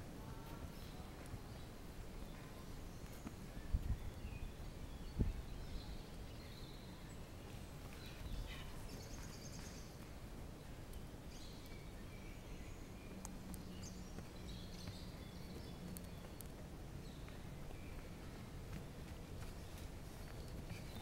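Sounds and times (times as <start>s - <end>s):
low background noise: 0.0s - 21.0s
birds chirping and warbling: 0.3s - 21.0s.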